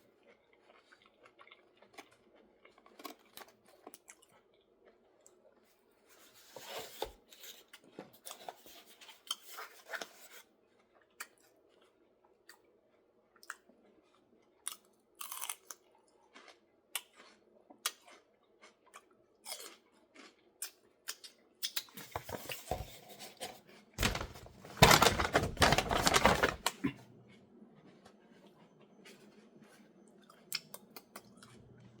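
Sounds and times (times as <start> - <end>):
chewing and crunching food: 0.0 - 32.0.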